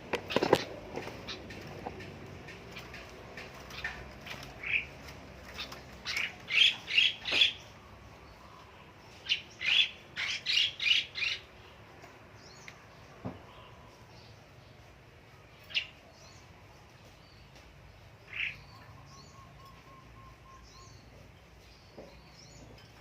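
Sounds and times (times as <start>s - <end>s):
bird calls: 0.0s - 14.9s, 15.6s - 23.0s.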